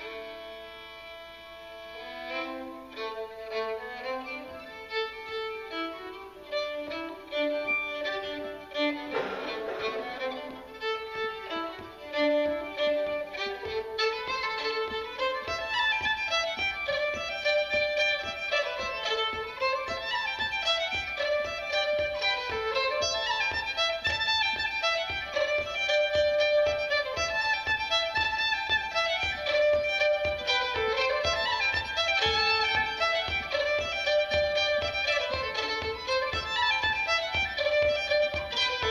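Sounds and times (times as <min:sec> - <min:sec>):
solo fiddle playing folk tune: 0:00.0 - 0:38.9.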